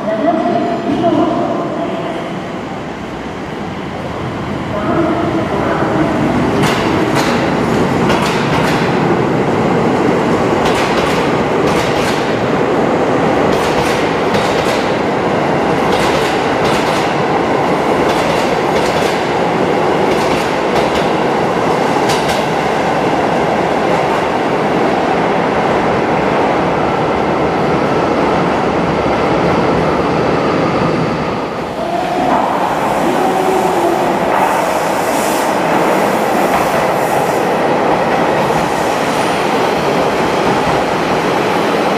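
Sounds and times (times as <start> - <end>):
train rolling rumble: 0.9 - 41.9.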